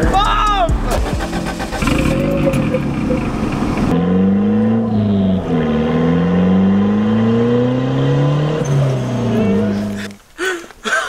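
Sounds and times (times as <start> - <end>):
car engine accelerating: 0.8 - 10.2.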